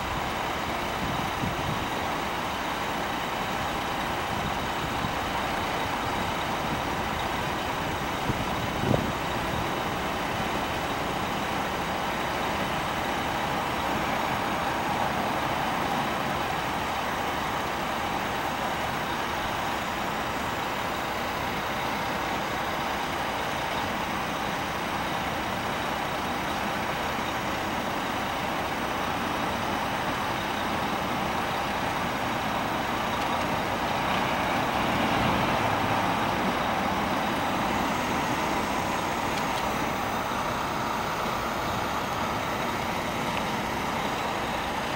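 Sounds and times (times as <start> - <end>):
diesel truck engine idling: 0.0 - 44.9.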